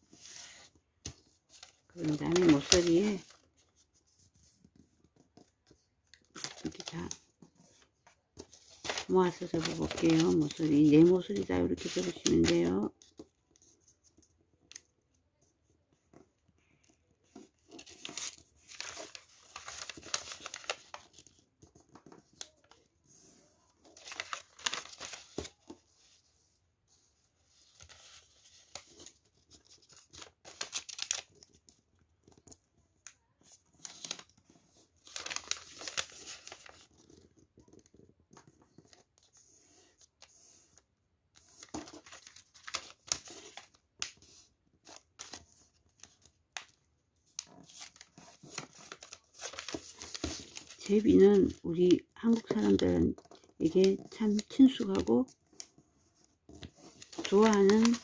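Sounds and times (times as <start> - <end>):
paper rustling and crinkling: 0.0 - 15.0, 16.0 - 58.0.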